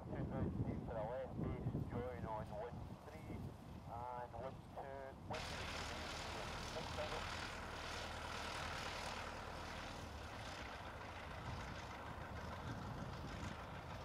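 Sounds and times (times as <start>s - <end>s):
light aircraft engine droning: 0.0s - 14.0s.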